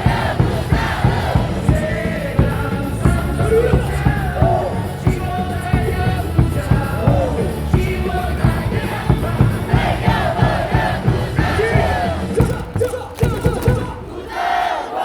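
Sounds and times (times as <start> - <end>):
cheer song over loudspeakers: 0.0 - 15.0
crowd singing along: 0.0 - 15.0.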